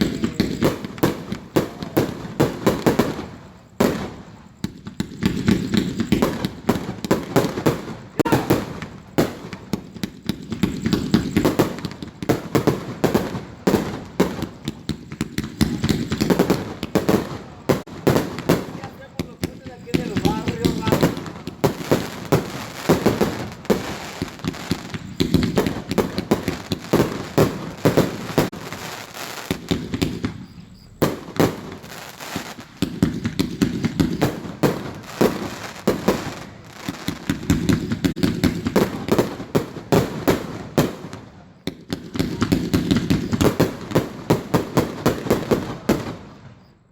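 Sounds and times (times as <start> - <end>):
fireworks bangs and cracks: 0.0 - 46.8.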